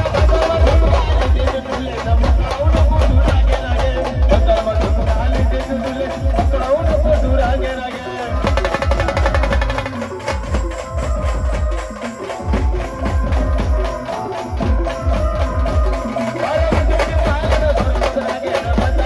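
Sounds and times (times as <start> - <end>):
fast drum rhythm: 0.0 - 19.0
heavy bass drum beats: 0.0 - 19.0
held melody line: 0.0 - 19.0
live band music: 0.0 - 19.0.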